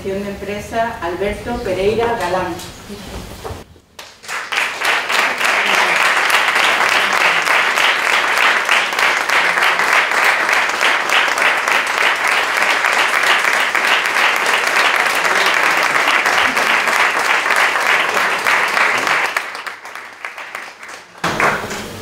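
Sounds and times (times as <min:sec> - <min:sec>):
audience applauding: 0:04.0 - 0:21.9.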